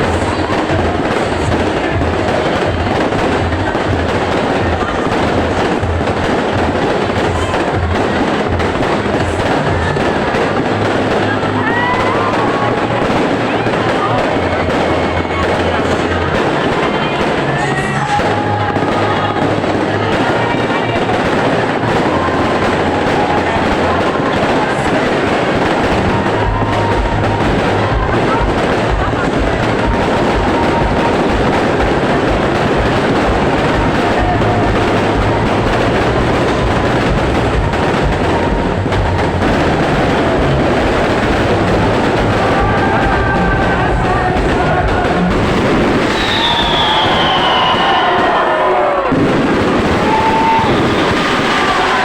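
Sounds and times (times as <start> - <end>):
fireworks banging and crackling: 0.0 - 52.0
music playing: 0.0 - 52.0.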